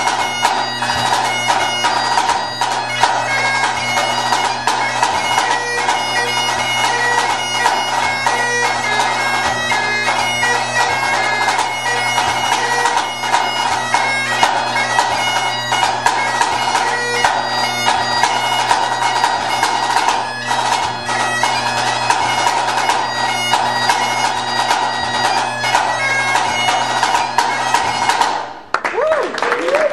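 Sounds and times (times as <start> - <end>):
bagpipe playing a tune: 0.0 - 28.7.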